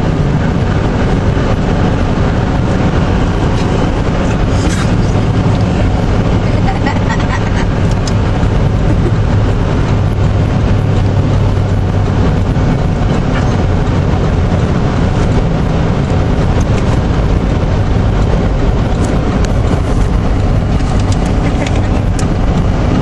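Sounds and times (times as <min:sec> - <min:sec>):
car road noise on slush: 0:00.0 - 0:23.0
low hum: 0:00.0 - 0:23.0.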